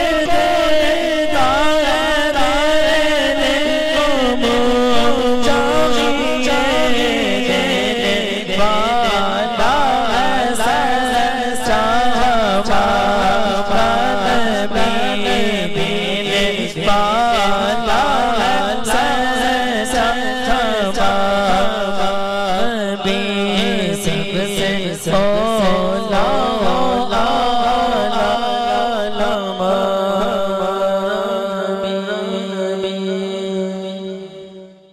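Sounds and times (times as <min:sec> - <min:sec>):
man chanting devotional song: 0:00.0 - 0:34.9.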